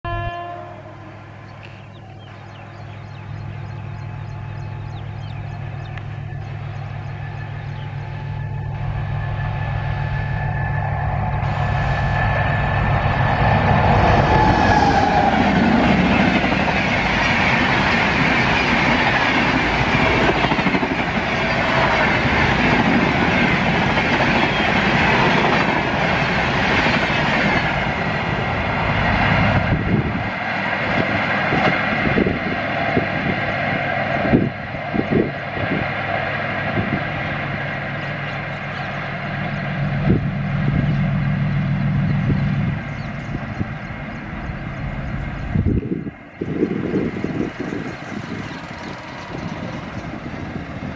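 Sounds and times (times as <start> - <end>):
train coaches rushing past: 0.1 - 50.9.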